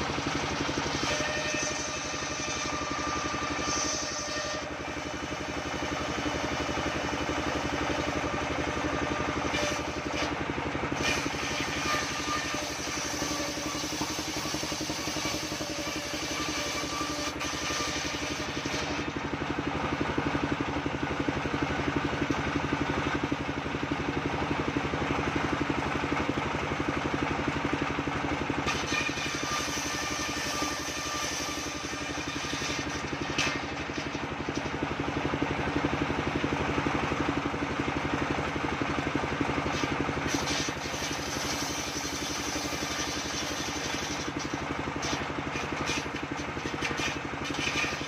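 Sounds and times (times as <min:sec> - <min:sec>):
sawmill engine and blade drone: 0:00.0 - 0:48.0.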